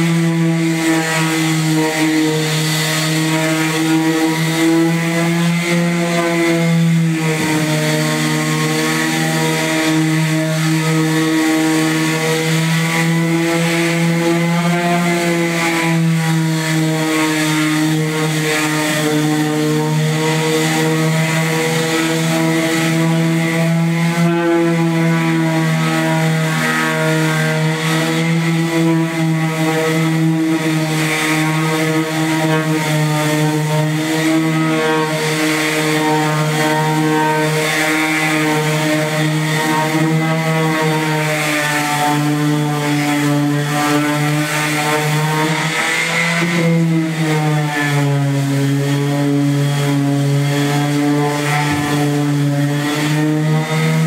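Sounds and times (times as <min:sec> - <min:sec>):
orbital sander humming: 0:00.0 - 0:54.0.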